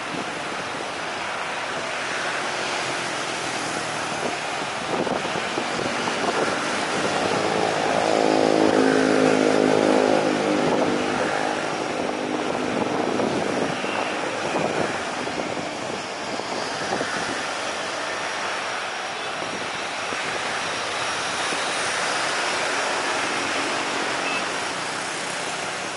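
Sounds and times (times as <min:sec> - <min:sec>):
turboprop aircraft taxiing drone: 0:02.0 - 0:25.9.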